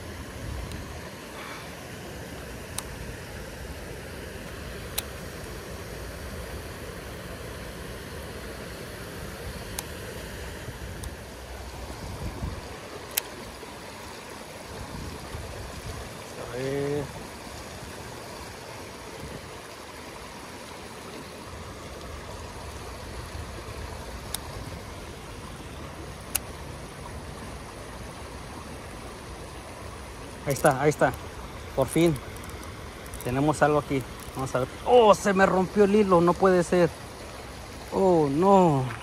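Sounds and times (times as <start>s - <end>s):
water running over rocks: 0.0s - 39.0s.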